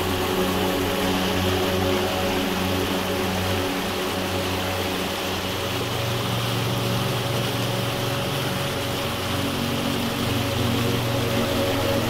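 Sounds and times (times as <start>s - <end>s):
creek water rushing over boulders: 0.0s - 12.0s.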